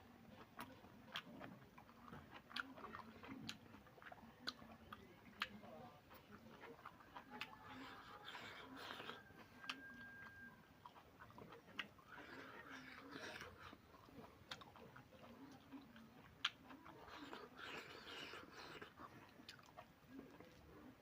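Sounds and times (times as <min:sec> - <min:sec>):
chewing food: 0:00.0 - 0:21.0.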